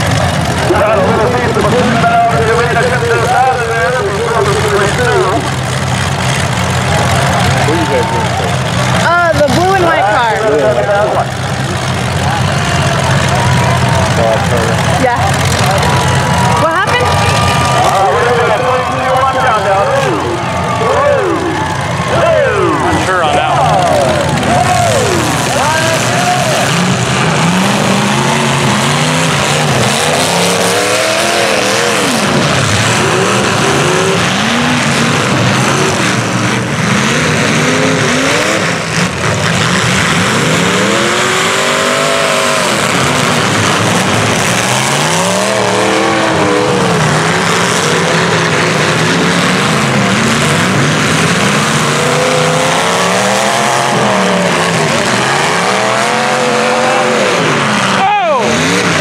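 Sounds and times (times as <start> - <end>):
car engines revving hard: 0.0 - 59.0
tires spinning in mud: 0.0 - 59.0.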